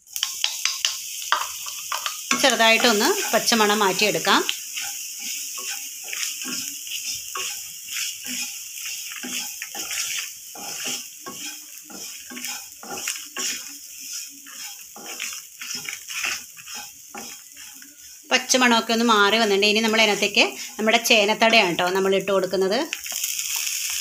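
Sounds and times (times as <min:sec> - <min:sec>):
hot oil sizzling: 0:00.0 - 0:24.0
wooden spatula scraping a pan: 0:01.3 - 0:21.9.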